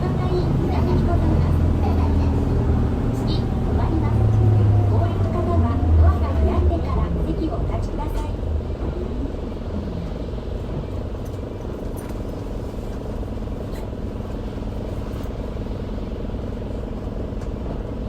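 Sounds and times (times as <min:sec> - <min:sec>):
road noise: 0:00.0 - 0:17.6
bus diesel engine: 0:00.0 - 0:18.0.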